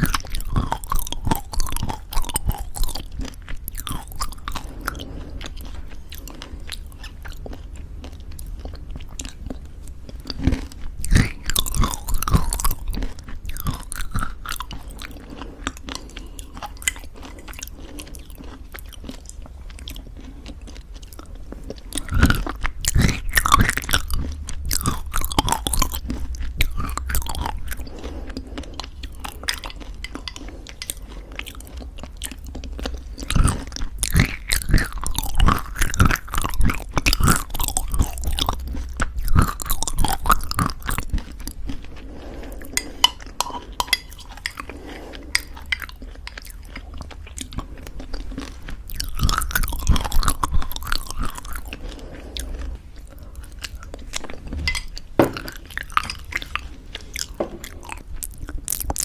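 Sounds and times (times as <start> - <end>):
chewing crunchy granola: 0.0 - 59.0.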